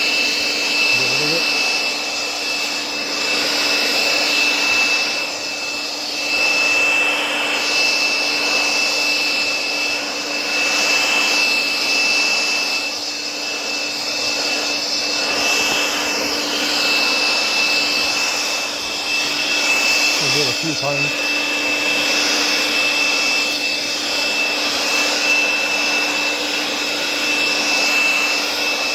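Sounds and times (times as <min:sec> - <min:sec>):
leaf blower running: 0:00.0 - 0:28.9.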